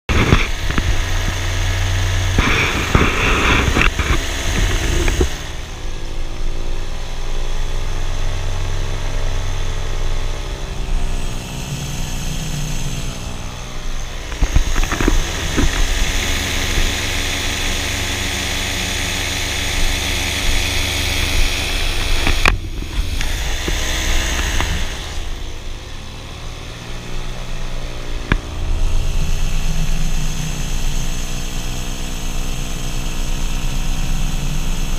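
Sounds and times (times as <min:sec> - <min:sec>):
paramotor engine and propeller: 0:00.1 - 0:34.9.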